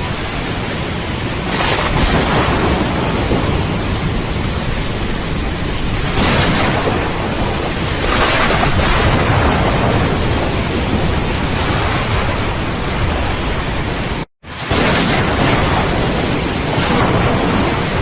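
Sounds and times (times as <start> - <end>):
rain falling: 0.0 - 18.0
rolling thunder: 0.0 - 18.0.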